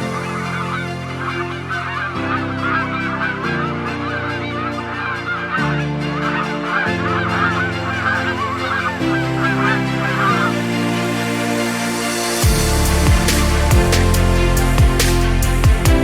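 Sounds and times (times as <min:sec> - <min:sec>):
background music of held chords: 0:00.0 - 0:16.0.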